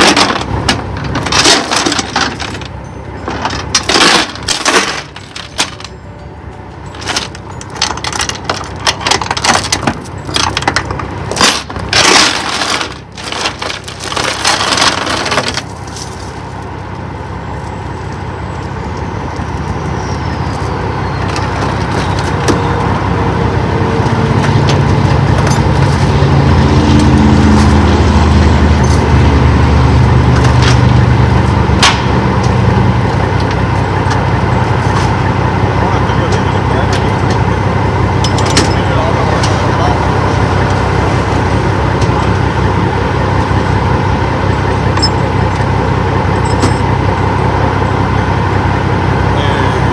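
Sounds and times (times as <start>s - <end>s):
chains clanking and rattling: 0.0s - 6.2s, 6.8s - 47.9s
heavy truck engine rumbling: 0.0s - 49.9s.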